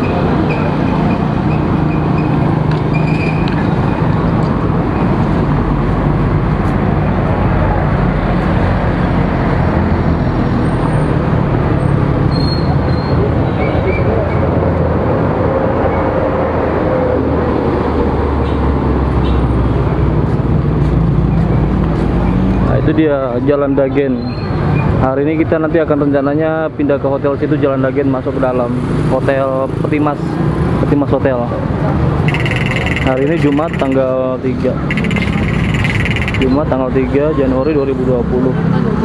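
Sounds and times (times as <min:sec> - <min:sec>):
motorbike and car engines passing: 0:00.0 - 0:23.8, 0:27.8 - 0:39.0.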